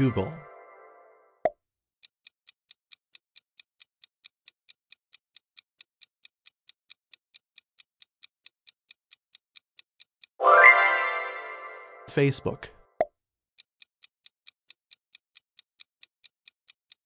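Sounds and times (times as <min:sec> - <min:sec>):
clock ticking: 0:00.0 - 0:00.9, 0:02.0 - 0:12.7, 0:13.6 - 0:17.0.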